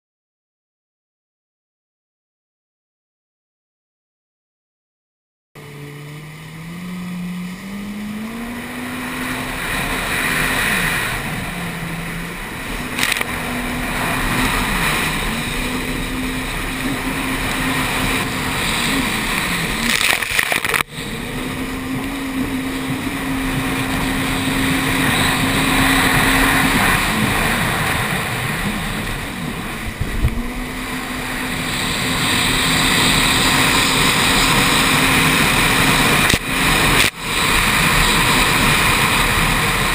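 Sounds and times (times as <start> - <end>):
jet ski engine revving: 5.6 - 39.9
rushing water and spray: 7.7 - 39.9.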